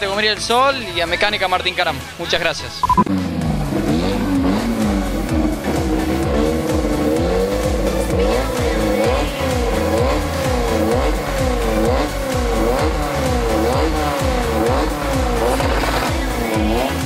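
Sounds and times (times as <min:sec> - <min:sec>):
music playing: 0:00.0 - 0:17.0
car engine revving: 0:03.0 - 0:17.0.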